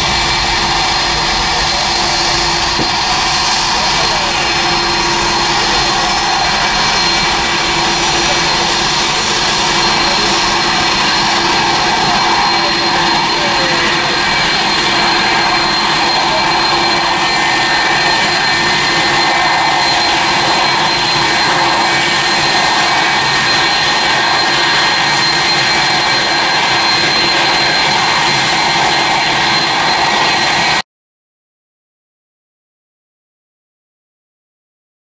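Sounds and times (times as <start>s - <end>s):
jet engines at takeoff: 0.0s - 30.8s.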